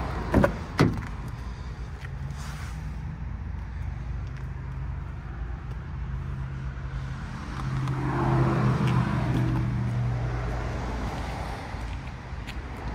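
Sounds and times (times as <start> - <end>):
low engine hum: 0.0 - 12.9
vehicle passing: 0.0 - 12.9.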